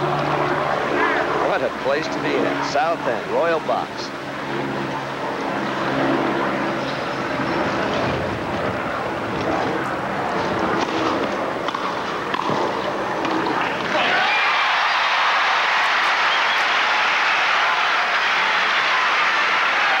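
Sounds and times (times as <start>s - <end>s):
crowd murmur and rustle: 0.0s - 20.0s.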